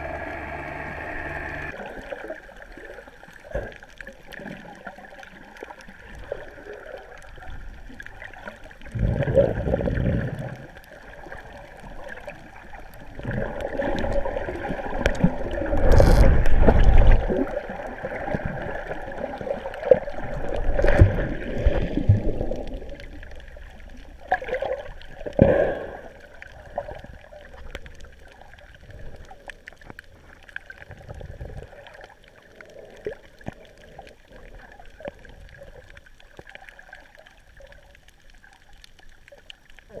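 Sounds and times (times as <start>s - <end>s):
water sloshing and rushing: 0.0s - 40.0s.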